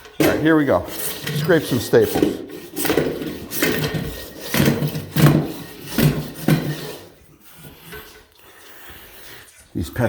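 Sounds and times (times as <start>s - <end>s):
floor scraper scraping wooden floorboards: 0.0s - 9.5s.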